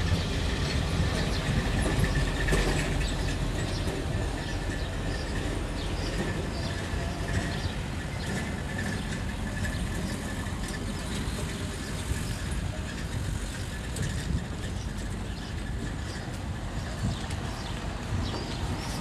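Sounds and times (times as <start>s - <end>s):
distant city traffic rumble: 0.0s - 19.0s
harbour noise: 0.0s - 19.0s.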